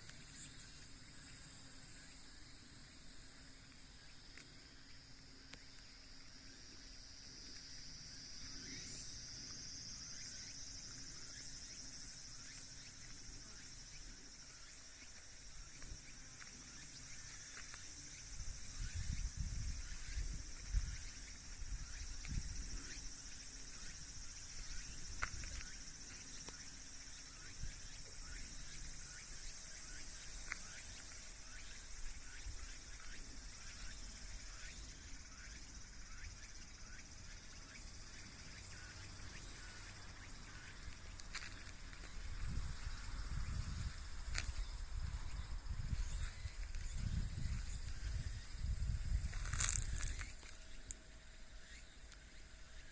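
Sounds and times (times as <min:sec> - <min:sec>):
insect chorus chirring: 0:00.0 - 0:52.9.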